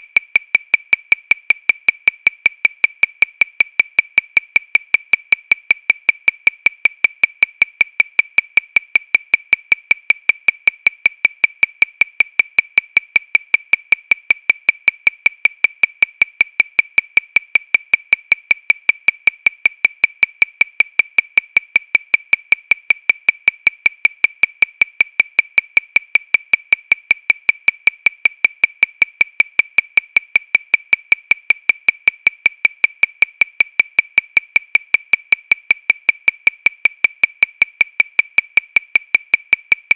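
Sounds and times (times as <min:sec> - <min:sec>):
metronome clicking: 0:00.0 - 0:39.9.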